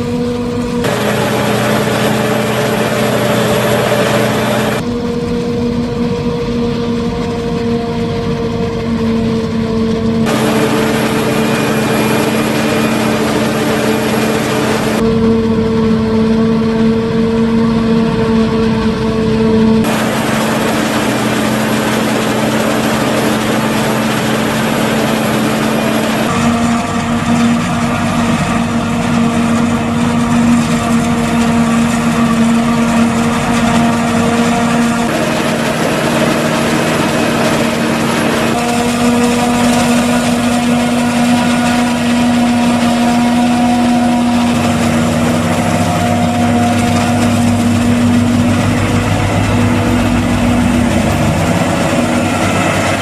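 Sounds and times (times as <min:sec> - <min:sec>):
harvester machine drone: 0:00.0 - 0:53.0.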